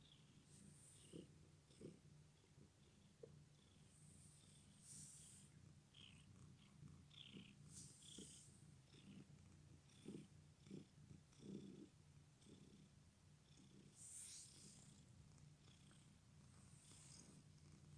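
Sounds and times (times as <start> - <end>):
cat purring: 0.0 - 17.9.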